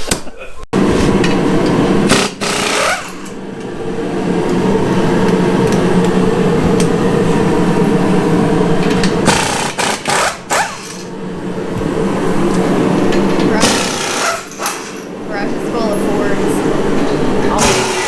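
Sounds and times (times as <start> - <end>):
air compressor running: 0.8 - 18.0.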